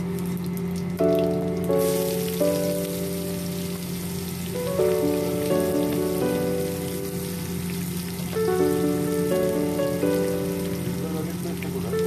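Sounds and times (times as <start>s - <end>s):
background music of held notes: 1.0s - 12.0s
onions sizzling in hot oil: 1.8s - 11.9s.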